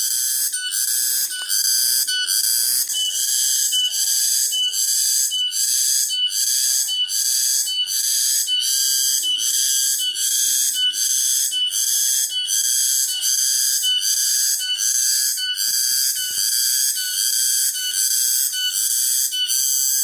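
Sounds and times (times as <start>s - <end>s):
cicadas singing loudly: 0.0s - 20.0s.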